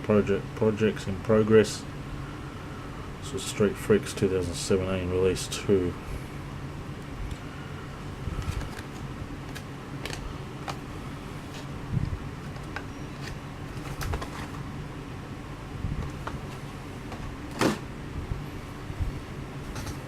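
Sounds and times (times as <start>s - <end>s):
steady low fan hum: 0.0s - 20.0s.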